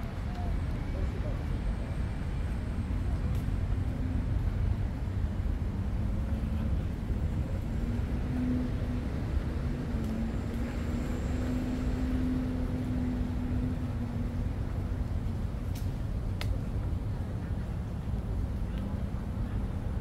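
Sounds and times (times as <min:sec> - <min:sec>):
faint engine hum: 0:00.0 - 0:20.0
low rumble of city traffic: 0:00.0 - 0:20.0.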